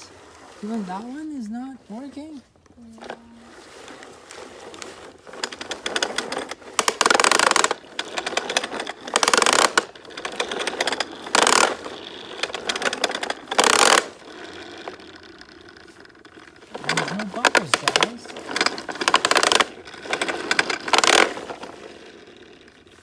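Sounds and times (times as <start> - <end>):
toy lawn mower clattering: 0.0 - 23.0.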